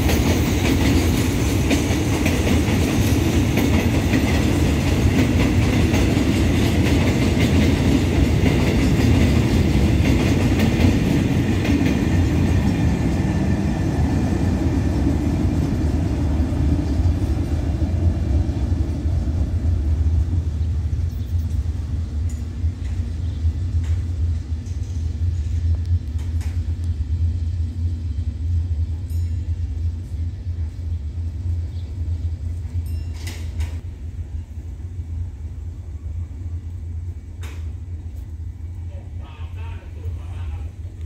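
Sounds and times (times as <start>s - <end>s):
freight train rumble: 0.0s - 41.0s.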